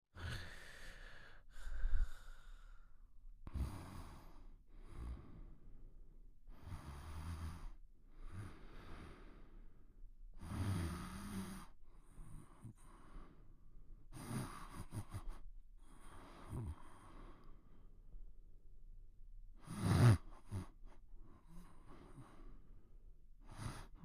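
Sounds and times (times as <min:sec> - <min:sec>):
soft snoring with low rattle: 0:00.2 - 0:17.9, 0:19.6 - 0:24.0.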